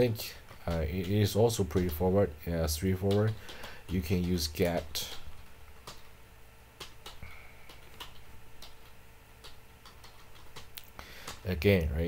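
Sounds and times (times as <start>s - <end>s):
low steady hum: 0.0s - 12.0s
computer keyboard keystrokes: 0.5s - 2.2s, 2.8s - 6.1s, 6.8s - 11.5s.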